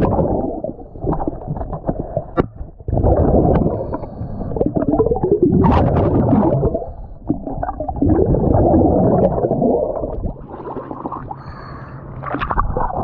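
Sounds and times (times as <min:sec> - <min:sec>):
diver's exhaled bubbles underwater: 0:00.0 - 0:13.0.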